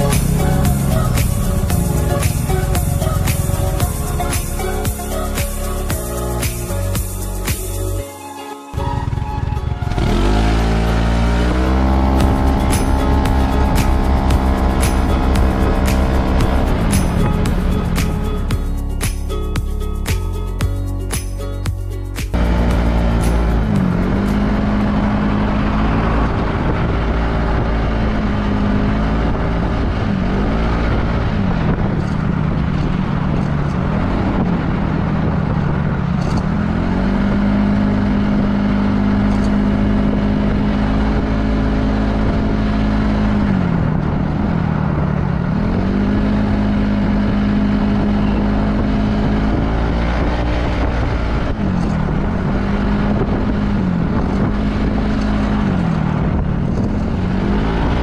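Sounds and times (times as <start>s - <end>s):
scooter engine running: 0.0s - 8.0s, 8.8s - 21.0s, 21.6s - 58.0s
wind and road rush: 0.0s - 8.1s, 8.7s - 58.0s.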